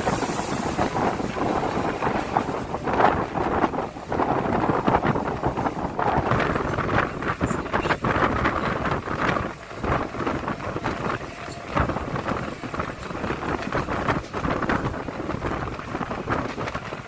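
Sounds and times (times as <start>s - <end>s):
train passing at speed: 0.0s - 17.0s
wind buffeting microphone: 0.0s - 17.0s.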